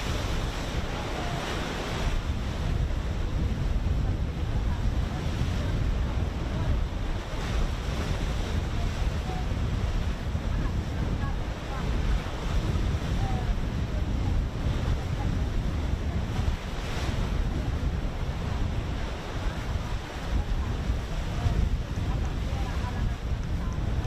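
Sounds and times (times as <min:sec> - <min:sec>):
sea waves: 0:00.0 - 0:24.0
wind buffeting microphone: 0:00.0 - 0:24.0.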